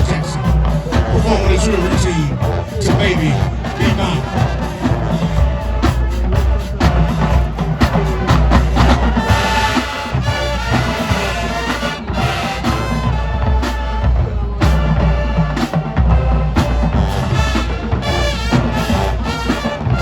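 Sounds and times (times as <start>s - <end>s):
bass drums: 0.0s - 20.0s
marching band playing: 0.0s - 20.0s.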